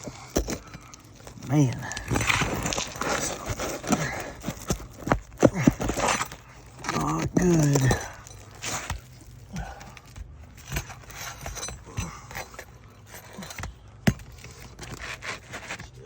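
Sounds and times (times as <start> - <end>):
metal tool scraping roofing nails: 0.0 - 16.0.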